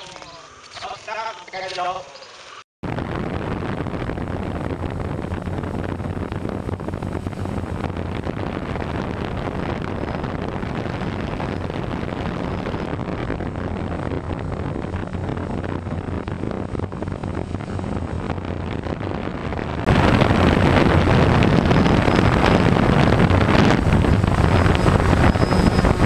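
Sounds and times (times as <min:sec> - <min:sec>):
wind rushing over microphone: 0:02.5 - 0:26.0
electric motors and propellers humming: 0:03.5 - 0:26.0.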